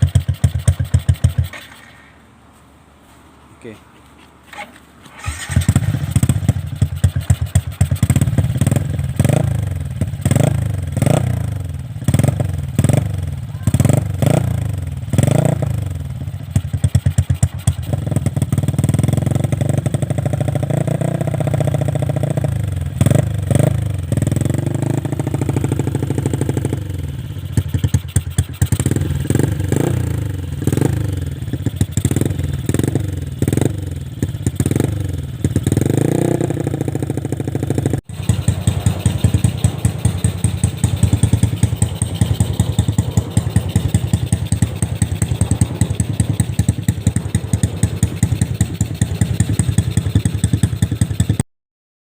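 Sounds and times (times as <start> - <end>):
motorcycle engine idling and revving: 0.0 - 2.2, 4.4 - 51.5.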